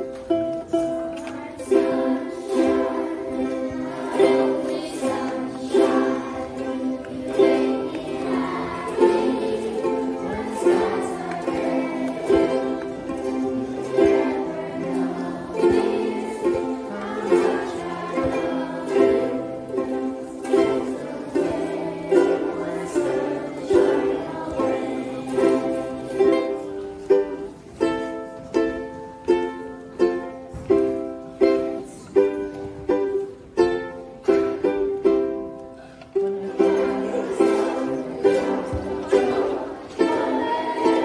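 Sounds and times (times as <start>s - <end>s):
ukuleles strummed in unison: 0.0s - 41.0s.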